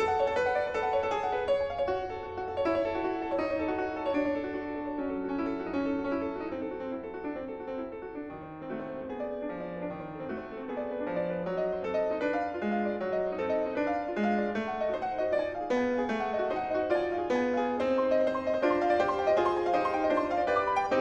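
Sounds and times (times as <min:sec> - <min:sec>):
solo classical piano: 0:00.0 - 0:21.0.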